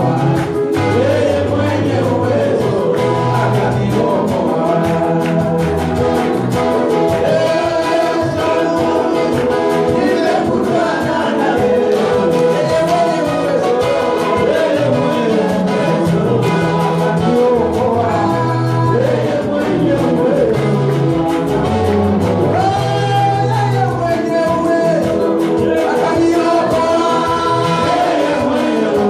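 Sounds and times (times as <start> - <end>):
band with bass line: 0.0 - 29.0
gospel singing voices: 0.0 - 29.0.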